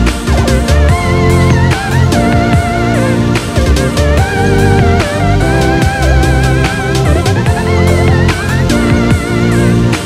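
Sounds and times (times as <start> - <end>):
guitar melody over bass and drums: 0.0 - 10.0.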